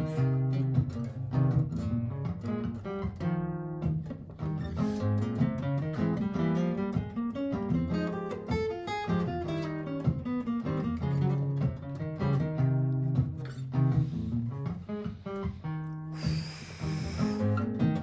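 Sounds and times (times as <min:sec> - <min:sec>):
picked acoustic guitar melody: 0:00.0 - 0:18.0.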